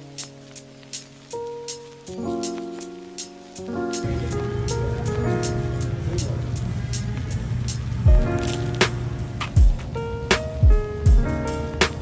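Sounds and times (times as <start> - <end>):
light ticking percussion: 0.0 - 12.0
soft sustained chords: 0.0 - 12.0.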